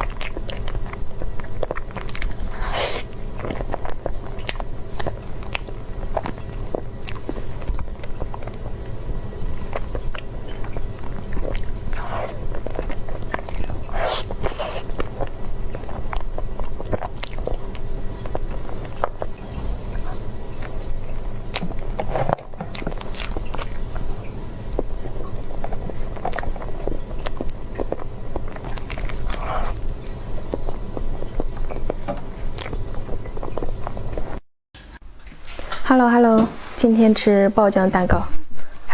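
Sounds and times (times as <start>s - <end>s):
person biting and chewing food: 0.0s - 9.0s, 9.6s - 34.4s
low hum: 0.0s - 35.6s.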